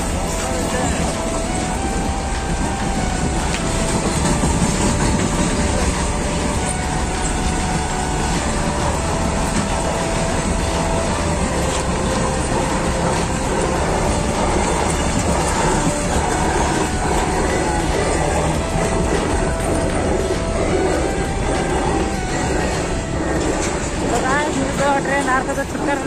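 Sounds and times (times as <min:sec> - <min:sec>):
train wheels rumbling on rail: 0:00.0 - 0:26.0
wheels whining: 0:00.0 - 0:26.0.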